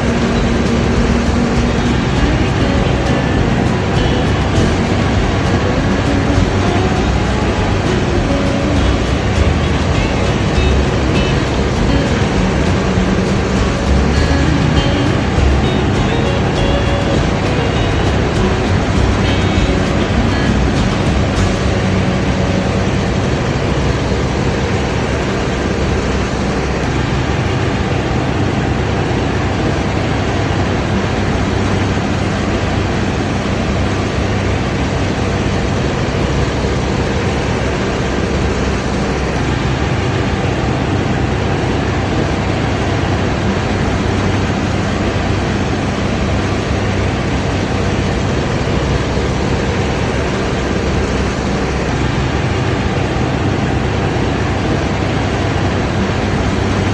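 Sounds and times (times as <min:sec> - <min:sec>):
combine harvester running: 0:00.0 - 0:56.9.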